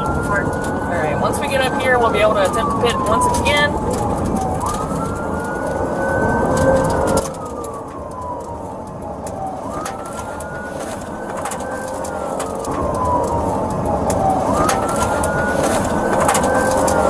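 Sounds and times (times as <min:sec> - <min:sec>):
car engine and road noise: 0:00.0 - 0:17.0
police siren wailing: 0:00.0 - 0:17.0.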